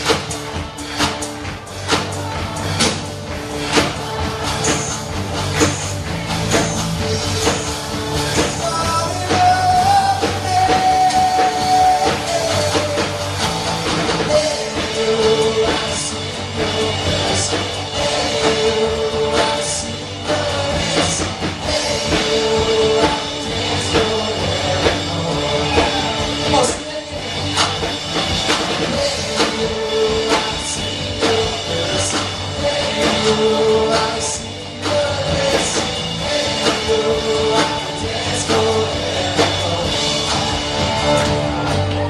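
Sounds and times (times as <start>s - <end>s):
drum kit: 0.0s - 42.0s
guitar: 0.0s - 42.0s.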